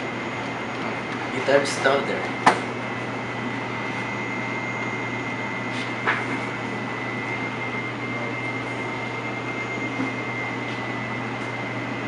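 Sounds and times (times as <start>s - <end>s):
background hum and hiss: 0.0s - 12.0s
high steady whine: 0.0s - 12.0s.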